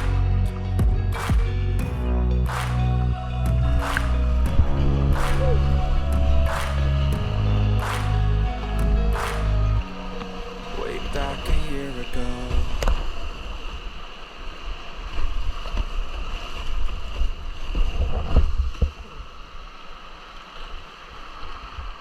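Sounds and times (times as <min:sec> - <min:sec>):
river water flowing: 0:00.0 - 0:17.9.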